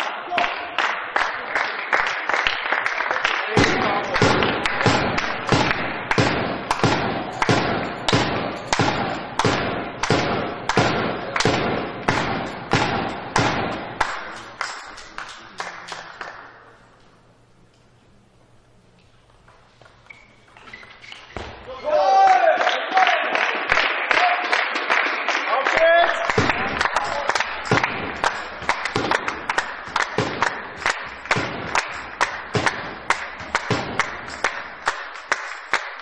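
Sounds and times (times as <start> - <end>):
spectators clapping in unison: 0.0 - 16.7, 22.2 - 36.0.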